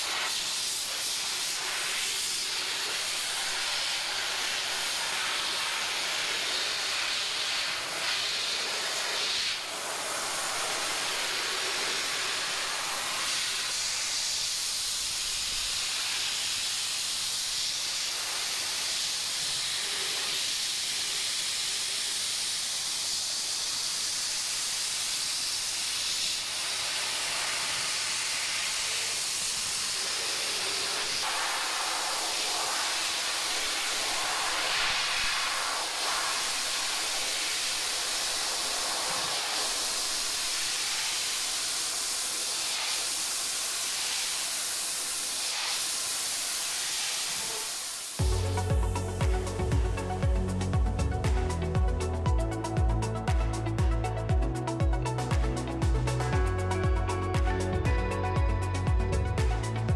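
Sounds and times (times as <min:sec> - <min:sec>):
dry ice blaster hissing: 0:00.0 - 0:59.9.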